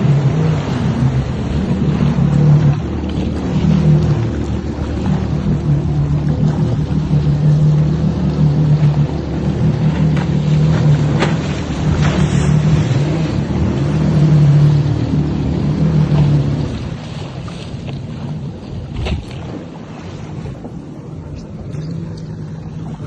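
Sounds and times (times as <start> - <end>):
engine droning: 0.0 - 23.0.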